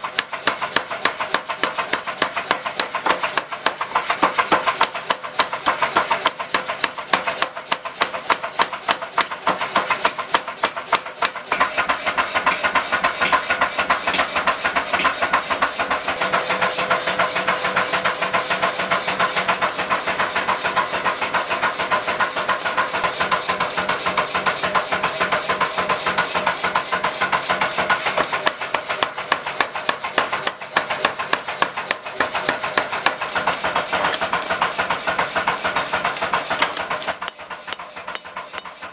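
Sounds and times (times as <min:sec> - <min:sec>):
machine running: 0:00.0 - 0:38.9
power hammer pounding metal: 0:00.0 - 0:38.9.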